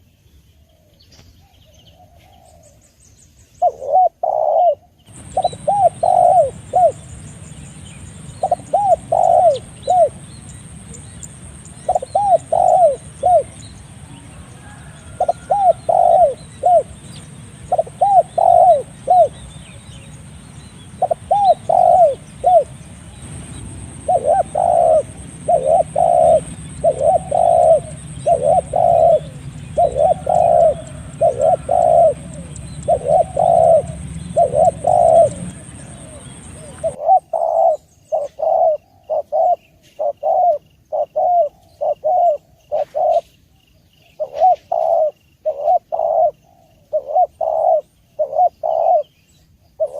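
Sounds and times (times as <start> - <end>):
background hiss: 0.0 - 49.9
dove cooing: 3.6 - 43.3, 44.1 - 49.2.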